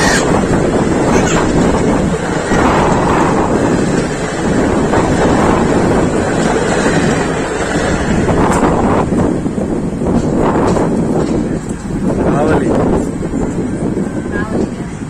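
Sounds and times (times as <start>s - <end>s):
train rushing at speed: 0.0s - 15.0s
wind buffeting microphone: 0.0s - 15.0s.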